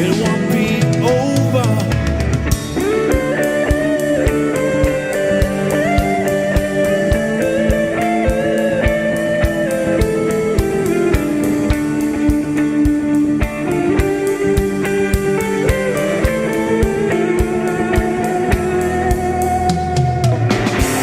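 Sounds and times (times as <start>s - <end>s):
electric guitar melody: 0.0s - 21.0s
rock band playing: 0.0s - 21.0s.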